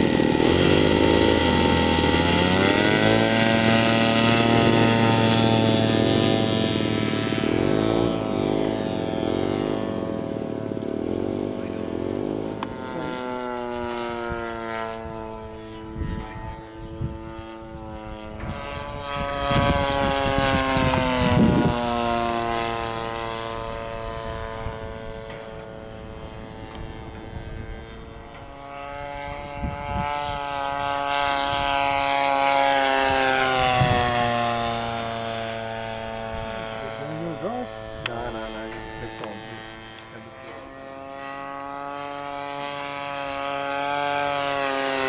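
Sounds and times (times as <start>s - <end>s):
model airplane engine droning: 0.0s - 45.0s.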